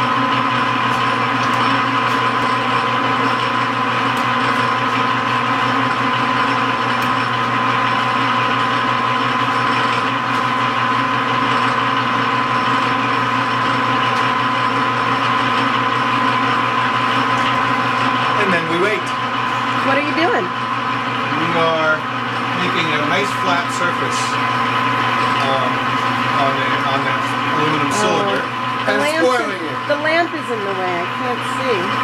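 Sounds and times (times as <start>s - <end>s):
metal lathe humming: 0.0s - 32.0s.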